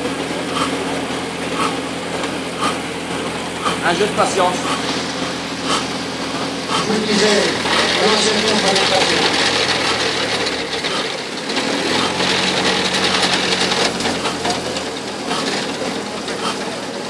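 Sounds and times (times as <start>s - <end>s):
low hum: 0.0s - 15.0s
engine cranking clatter: 0.0s - 17.0s.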